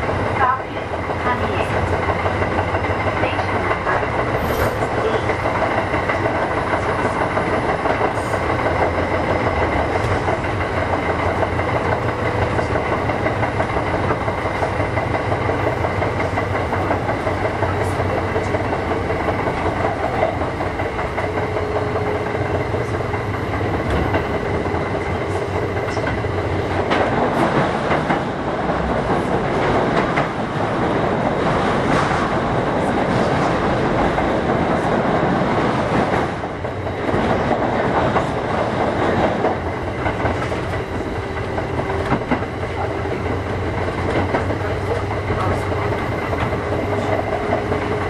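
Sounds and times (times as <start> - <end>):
rail-joint clicks: 0.0 - 48.0
train wheels rumbling on rail: 0.0 - 48.0.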